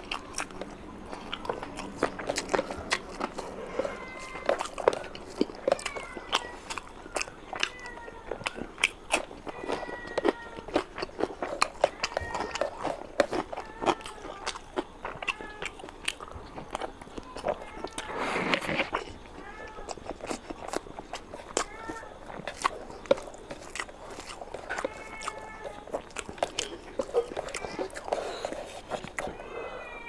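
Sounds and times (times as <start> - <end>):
wet chewing and lip smacking: 0.0 - 29.4.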